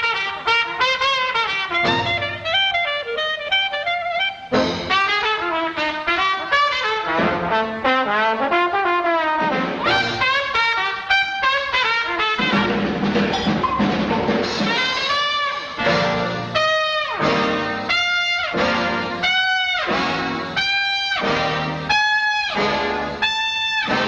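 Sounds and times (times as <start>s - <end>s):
big band swing music: 0.0s - 24.0s.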